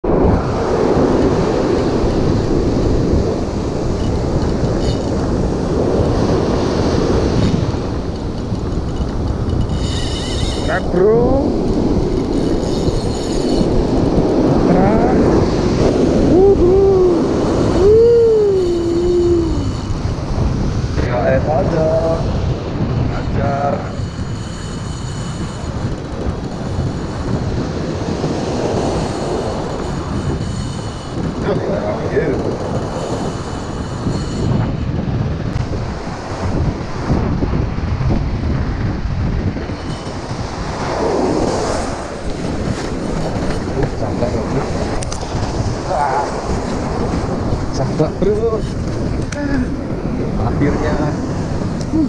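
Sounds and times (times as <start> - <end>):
surf breaking on beach: 0.0 - 52.0
wind buffeting microphone: 0.0 - 52.0.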